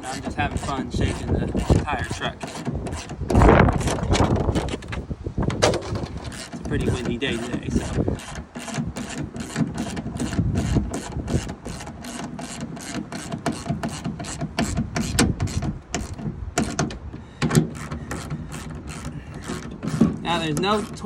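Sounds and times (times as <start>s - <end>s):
wind rumble on microphone: 0.0s - 11.9s, 14.4s - 21.0s.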